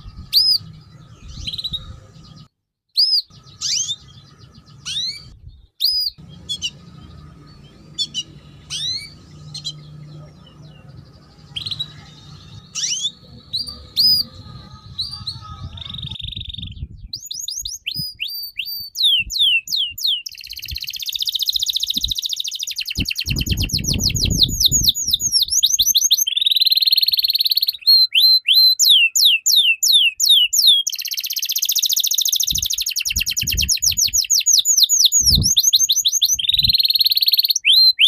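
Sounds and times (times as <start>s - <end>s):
songbird whistling: 0.0s - 2.0s, 3.0s - 38.0s
bird trill: 0.0s - 38.0s.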